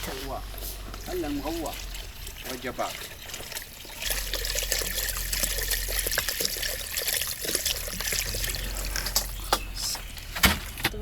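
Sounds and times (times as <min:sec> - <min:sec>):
water pouring into pot: 0:00.2 - 0:09.4.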